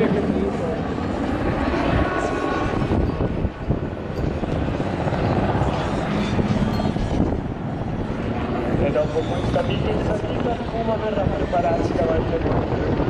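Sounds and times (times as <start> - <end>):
helicopter rotor beating: 0.0 - 13.0
helicopter turbine engines: 0.0 - 13.0.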